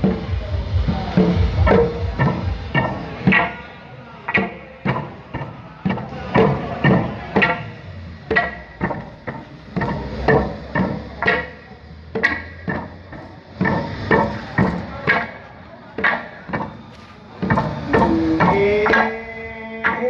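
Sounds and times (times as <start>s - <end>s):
wooden pestles knocking: 1.2s - 3.6s, 4.3s - 7.7s, 8.3s - 15.4s, 16.0s - 20.0s.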